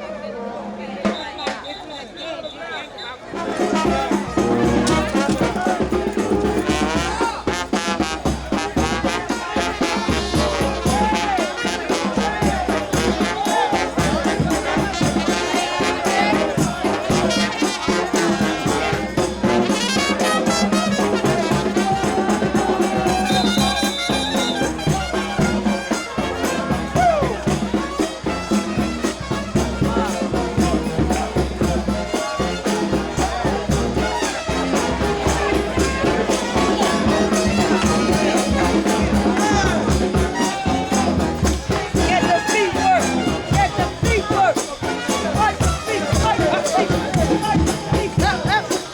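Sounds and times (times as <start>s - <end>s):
brass band playing: 0.0s - 48.9s
trumpets and trombones: 0.0s - 48.9s
steady drum beat: 3.3s - 48.9s.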